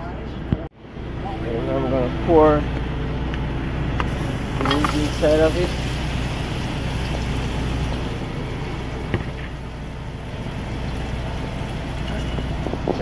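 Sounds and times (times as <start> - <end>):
truck engine idling: 0.9 - 13.0.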